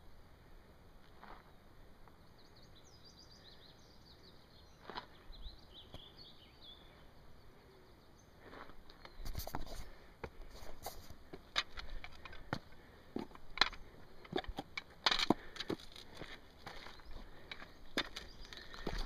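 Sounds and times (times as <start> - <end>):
faint bird song: 0.0 - 19.0.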